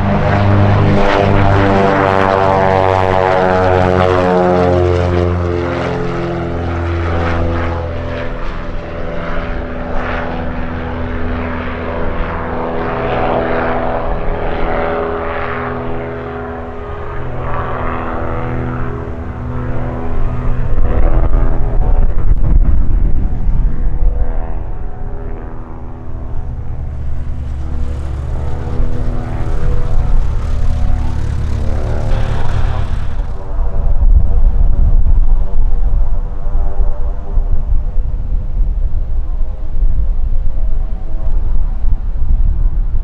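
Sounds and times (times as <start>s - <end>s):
propeller plane passing low: 0.0s - 43.0s.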